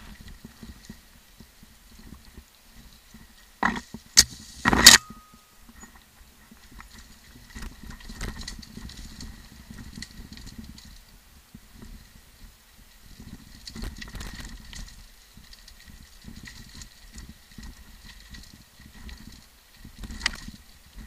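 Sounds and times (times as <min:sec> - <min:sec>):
mountain bike rattling over stones: 0:00.0 - 0:21.0.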